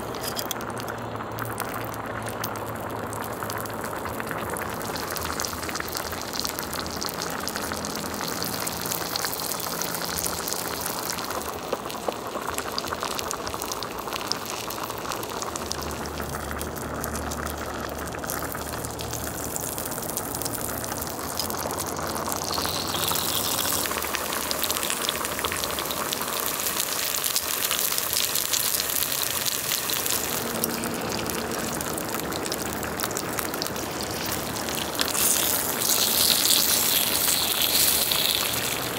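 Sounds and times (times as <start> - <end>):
broth bubbling: 0.0 - 38.9
meat sizzling on a grill plate: 1.4 - 38.9.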